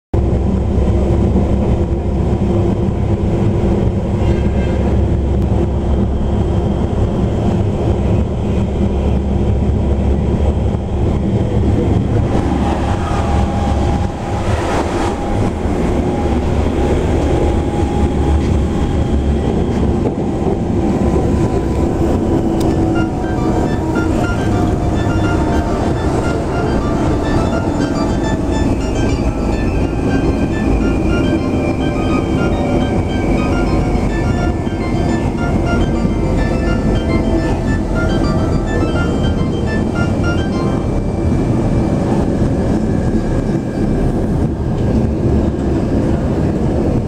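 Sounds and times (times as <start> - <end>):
steady train hum: 0.1 - 47.0
train wheels rumbling on rails: 0.2 - 47.0.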